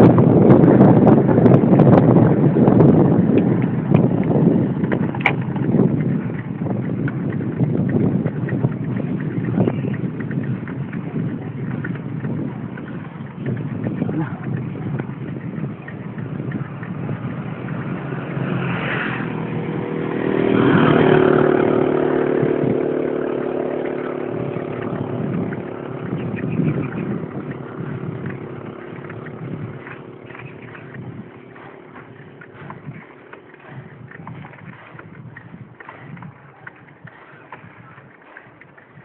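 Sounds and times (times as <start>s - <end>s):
motorcycle passing by: 0.0s - 39.0s
mountain bike rattle and wind noise: 0.0s - 39.0s.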